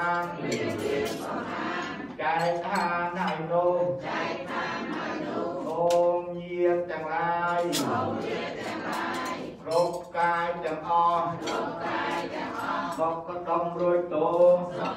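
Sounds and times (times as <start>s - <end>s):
monks chanting in unison: 0.0s - 14.9s.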